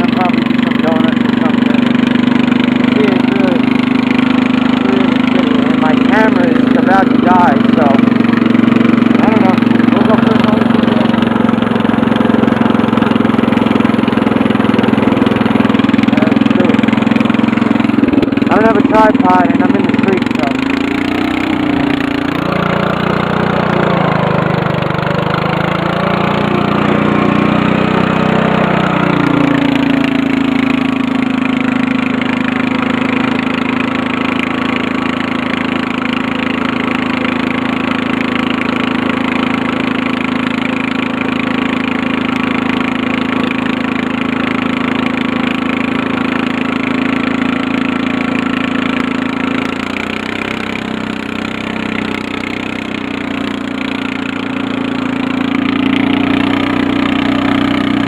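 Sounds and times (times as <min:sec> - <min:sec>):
riding lawn mower engine running: 0:00.0 - 0:58.0.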